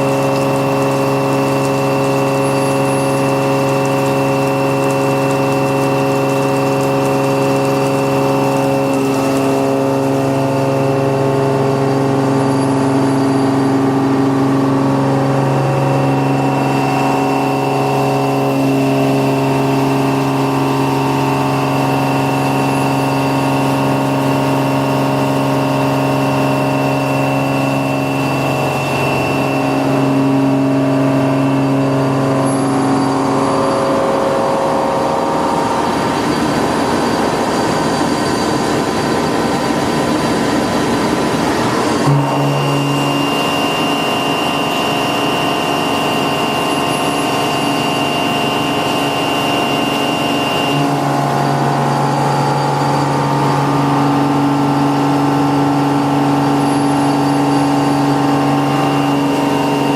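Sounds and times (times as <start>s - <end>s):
milling machine cutting metal: 0.0s - 59.9s.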